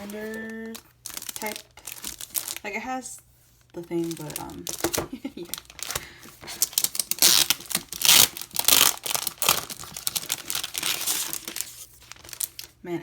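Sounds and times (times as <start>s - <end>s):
packaging crinkling and rustling: 0.0s - 12.8s.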